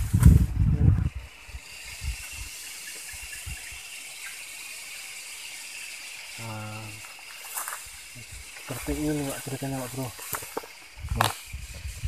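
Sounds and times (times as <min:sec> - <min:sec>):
forest ambience hiss: 0:00.0 - 0:12.0.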